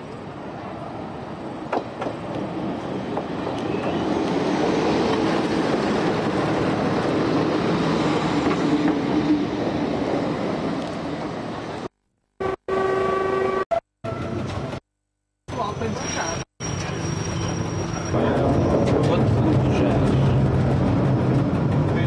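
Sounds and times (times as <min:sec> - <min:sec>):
diesel railcar engine and wheels: 0:00.0 - 0:11.9, 0:13.0 - 0:14.8, 0:15.5 - 0:22.0.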